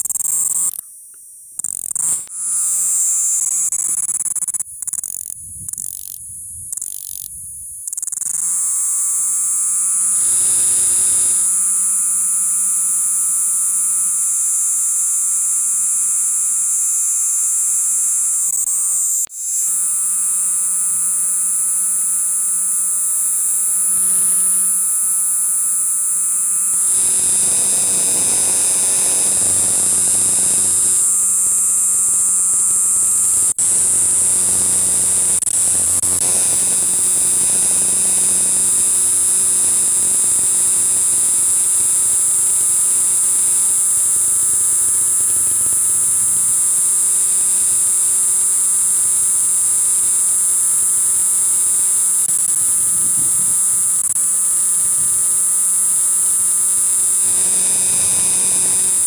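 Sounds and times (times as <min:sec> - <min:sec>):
cicada buzzing: 0:00.0 - 0:59.0.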